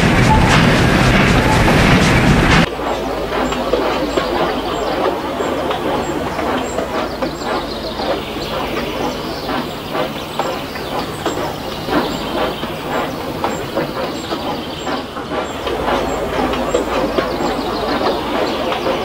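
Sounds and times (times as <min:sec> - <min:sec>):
low train rumble: 0:00.0 - 0:19.0
train clattering: 0:00.0 - 0:19.0.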